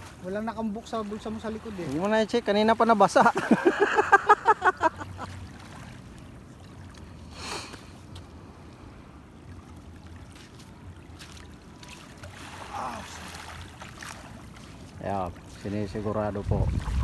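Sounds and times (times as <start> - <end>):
soft water movement: 0.0 - 17.0.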